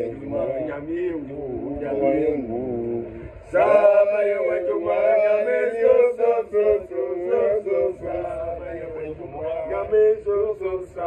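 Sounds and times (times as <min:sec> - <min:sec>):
men singing chant: 0:00.0 - 0:11.0.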